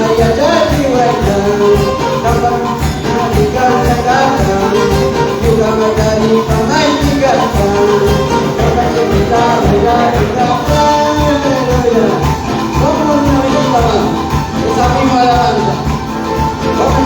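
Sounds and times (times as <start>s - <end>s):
light percussion: 0.0s - 17.0s
live worship band music: 0.0s - 17.0s.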